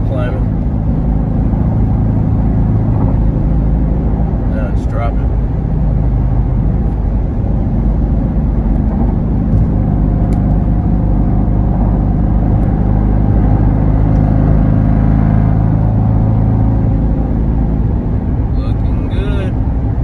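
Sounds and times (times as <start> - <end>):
car engine cruising drone: 0.0 - 20.0.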